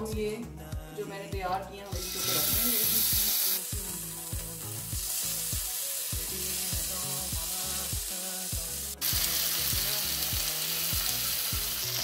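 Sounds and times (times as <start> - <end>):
background music with steady beat: 0.0 - 12.0
chicken sizzling in hot oil: 2.0 - 12.0.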